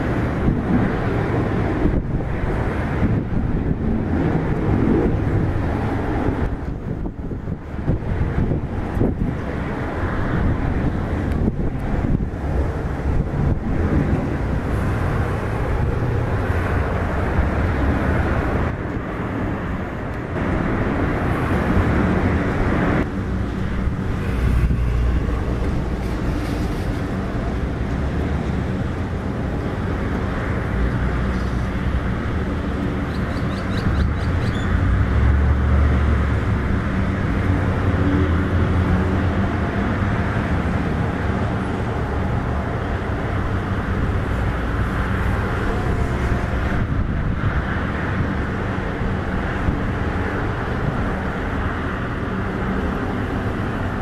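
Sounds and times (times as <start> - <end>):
distant jet aircraft rumble: 0.0 - 54.0
traffic rumble: 0.0 - 54.0.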